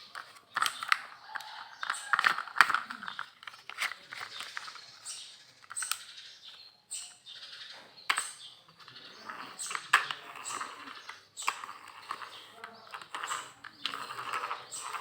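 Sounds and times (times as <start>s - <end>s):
plastic toys clacking: 0.0s - 6.6s, 8.1s - 15.0s
plastic toys scraping and rattling: 0.0s - 6.7s, 8.1s - 15.0s.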